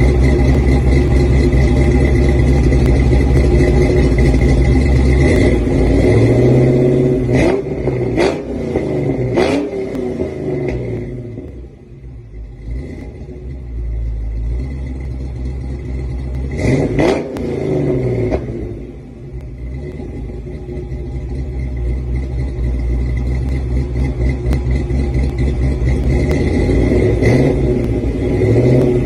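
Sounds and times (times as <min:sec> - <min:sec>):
engine revving in blips: 0:00.0 - 0:11.7, 0:12.6 - 0:29.0
car engine idling: 0:00.0 - 0:29.0.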